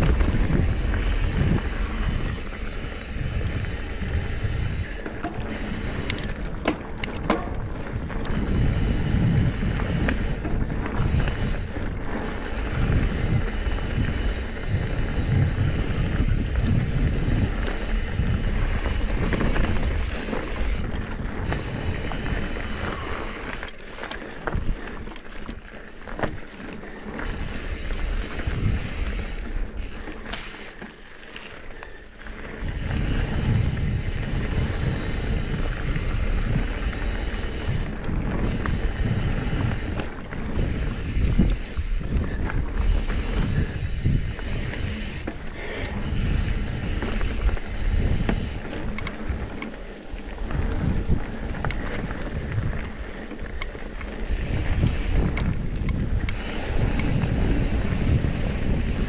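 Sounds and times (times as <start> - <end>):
wind buffeting microphone: 0.0 - 30.7, 32.0 - 59.0
mountain bike rumbling on dirt: 0.0 - 59.0.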